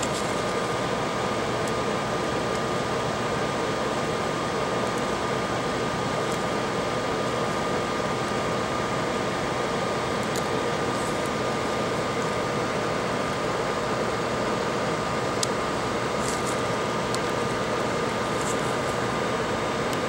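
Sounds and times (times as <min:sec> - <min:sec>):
fan whirring: 0:00.0 - 0:20.0.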